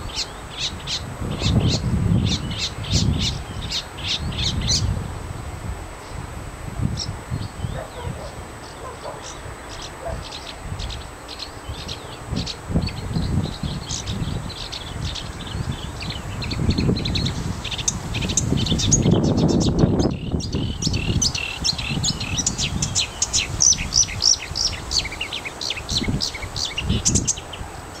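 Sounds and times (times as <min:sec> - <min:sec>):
bird singing chirps and trills: 0:00.0 - 0:05.0, 0:06.0 - 0:28.0.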